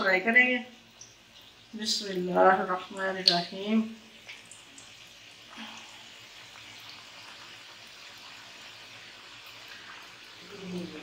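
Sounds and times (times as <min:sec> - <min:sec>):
fat sizzling in deep fryer: 0:00.0 - 0:11.0.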